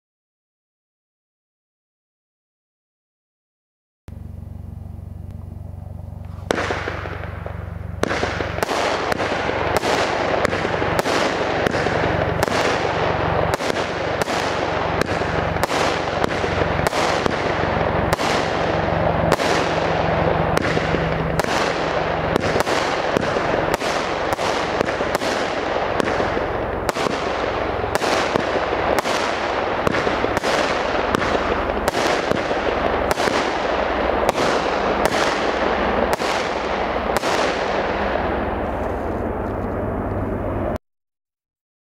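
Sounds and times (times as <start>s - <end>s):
firework bangs: 4.2s - 40.8s.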